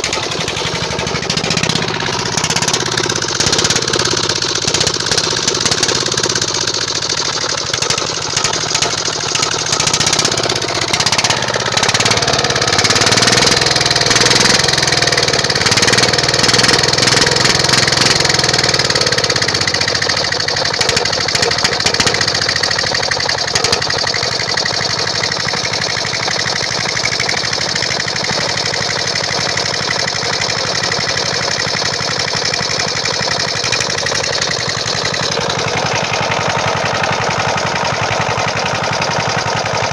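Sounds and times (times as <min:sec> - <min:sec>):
diesel engine clatter: 0:00.0 - 0:39.9.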